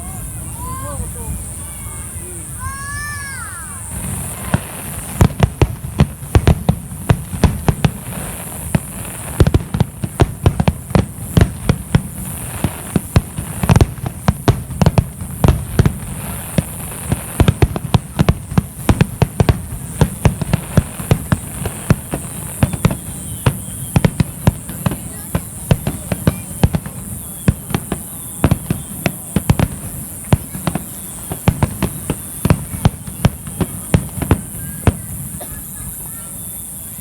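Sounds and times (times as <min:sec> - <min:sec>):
fireworks bangs: 0:00.0 - 0:37.0.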